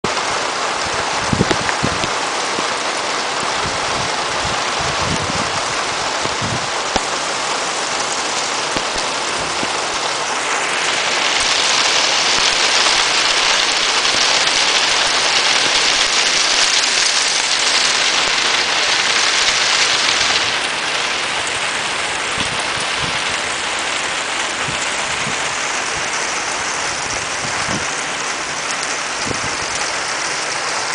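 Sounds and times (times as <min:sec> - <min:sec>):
rain on a roof: 0:00.0 - 0:30.9.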